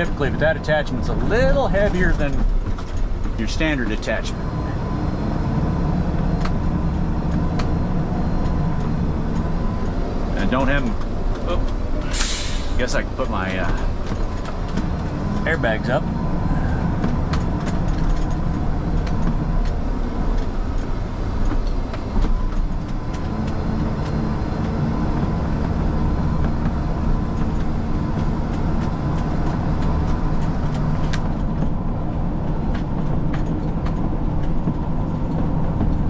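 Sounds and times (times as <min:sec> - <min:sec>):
tow truck engine drone: 0:00.0 - 0:36.0.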